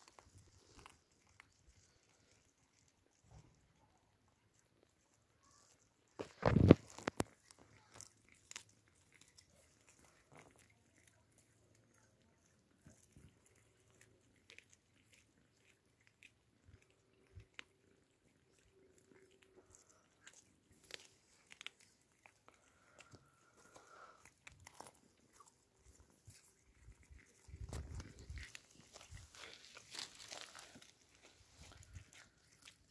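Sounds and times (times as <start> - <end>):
cats chewing raw fish: 0.0 - 32.9.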